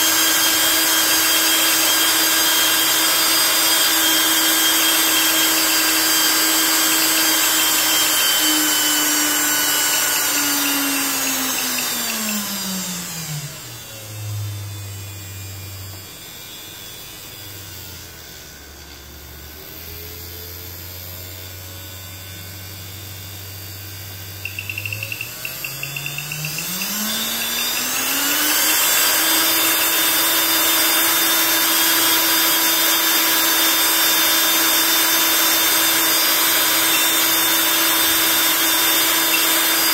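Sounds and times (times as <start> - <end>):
small electric motor whine: 0.0 - 39.9.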